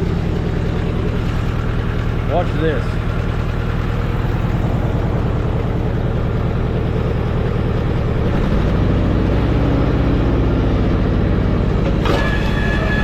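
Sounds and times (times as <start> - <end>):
tractor engine under load: 0.0 - 13.0.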